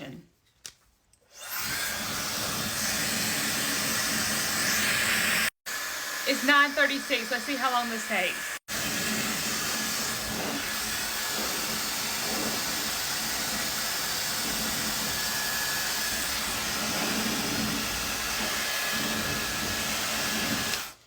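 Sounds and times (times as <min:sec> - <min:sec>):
hair dryer blowing air: 0:01.3 - 0:21.0.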